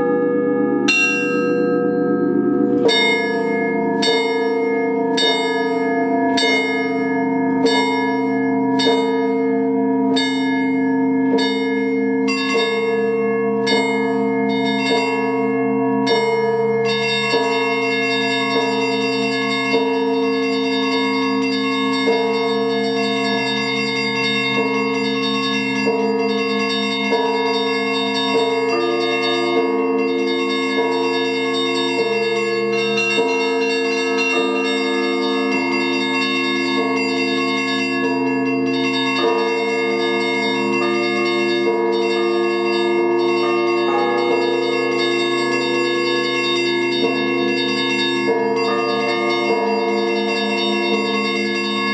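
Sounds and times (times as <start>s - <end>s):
church bells pealing: 0.0s - 51.9s
small high bells chiming rapidly: 0.0s - 51.9s.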